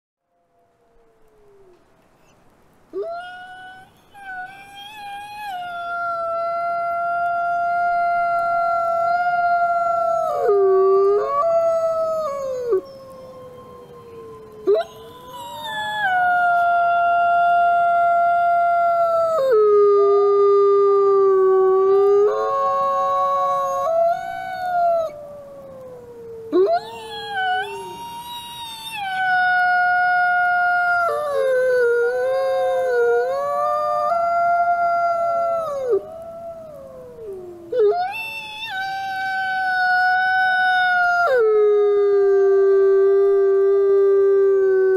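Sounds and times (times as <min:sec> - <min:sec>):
wolves howling: 0:02.9 - 0:44.9.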